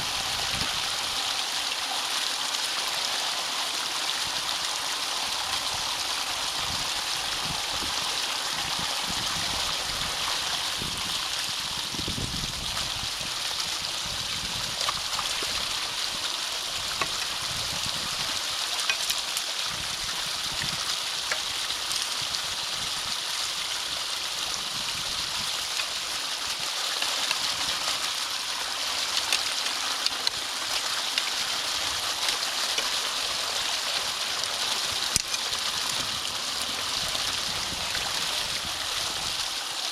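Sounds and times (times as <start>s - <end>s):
water rushing in a ditch: 0.0s - 39.9s.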